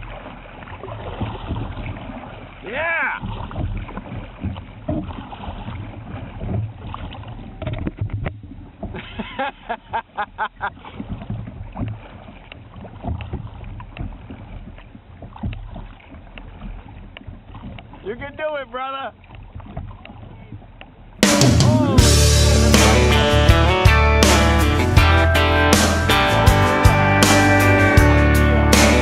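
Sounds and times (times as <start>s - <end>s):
water noise: 0.0s - 29.0s.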